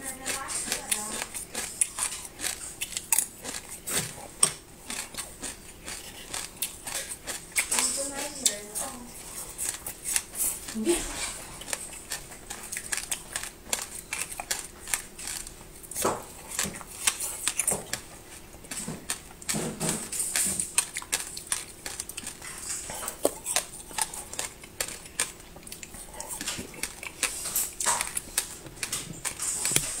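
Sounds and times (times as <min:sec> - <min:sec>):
crunching and chewing candy: 0:00.0 - 0:30.0.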